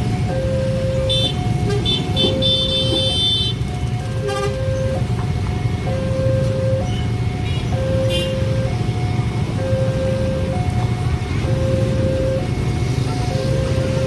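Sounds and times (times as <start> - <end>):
level-crossing two-tone alarm: 0.0 - 14.0.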